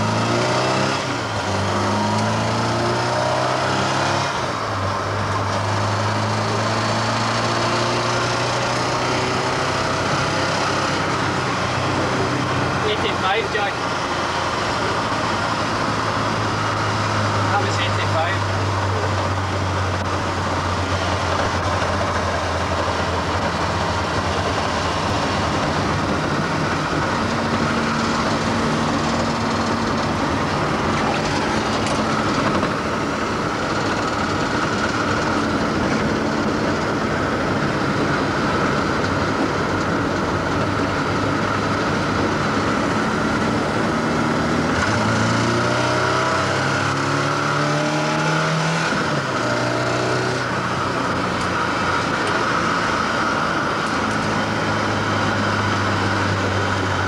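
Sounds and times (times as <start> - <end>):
car engine: 0.0 - 57.0
road noise inside car: 0.0 - 57.0.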